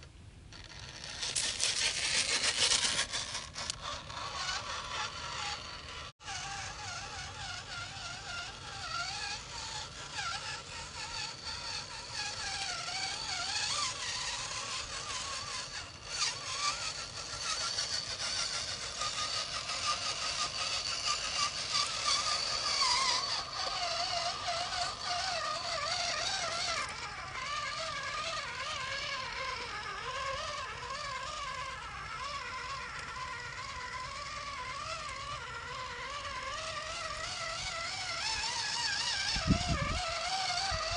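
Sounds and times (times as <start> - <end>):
rc truck motor whining: 0.0 - 40.9.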